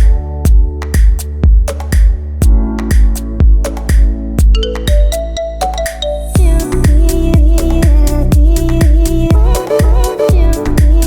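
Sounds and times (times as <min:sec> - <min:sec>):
drum machine beat: 0:00.0 - 0:11.0.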